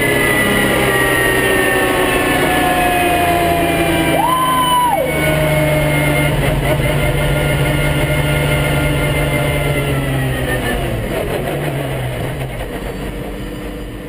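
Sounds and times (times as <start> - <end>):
car engine running low revs: 0.0 - 14.0.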